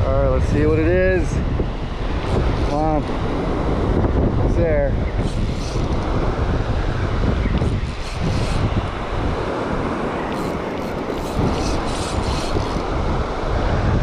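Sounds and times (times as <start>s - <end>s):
breaking surf: 0.0s - 14.0s
wind buffeting microphone: 0.0s - 14.0s.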